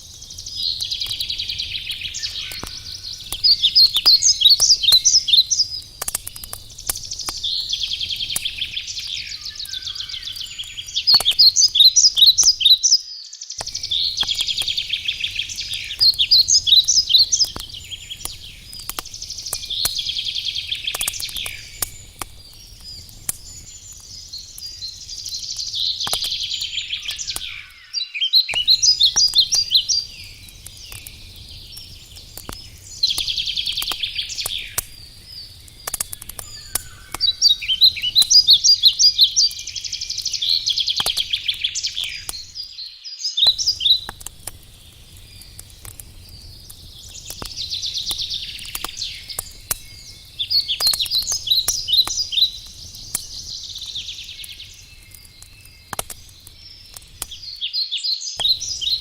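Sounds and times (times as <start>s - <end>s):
campfire popping and crackling: 0.0s - 13.0s, 13.6s - 27.9s, 28.5s - 42.8s, 43.4s - 57.8s, 58.4s - 59.0s
songbird trilling song: 0.0s - 59.0s.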